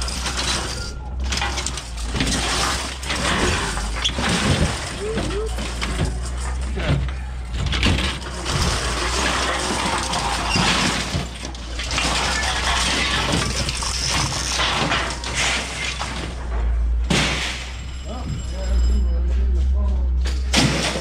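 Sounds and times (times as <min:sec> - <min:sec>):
broken glass crunching and tinkling: 0:00.0 - 0:19.3, 0:20.3 - 0:21.0
metal frames clattering and scraping: 0:00.0 - 0:21.0.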